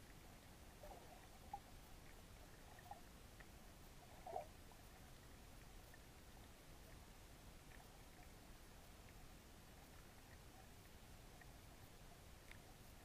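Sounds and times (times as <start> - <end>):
faint low hum and hiss: 0.0 - 13.0.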